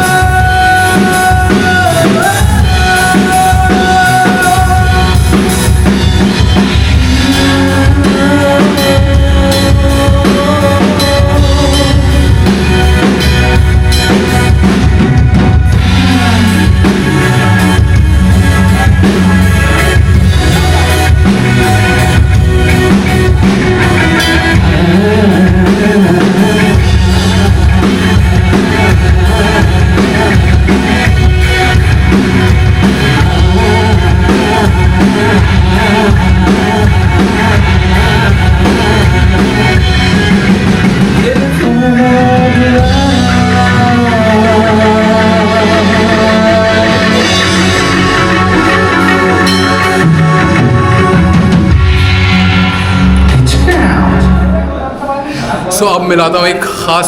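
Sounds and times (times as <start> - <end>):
person singing: 0.0 - 52.0, 53.3 - 57.0
drum kit: 0.0 - 57.0
guitar: 0.0 - 57.0
rock band playing: 0.0 - 57.0.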